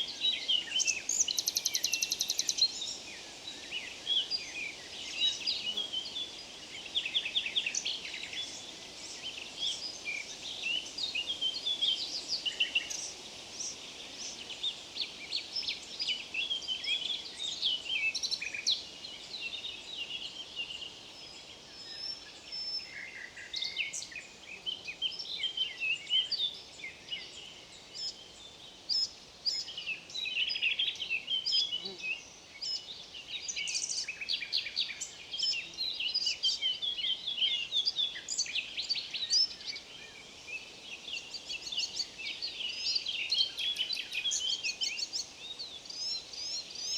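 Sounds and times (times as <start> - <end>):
faint background hiss: 0.0 - 46.9
songbirds chirping: 0.0 - 46.9.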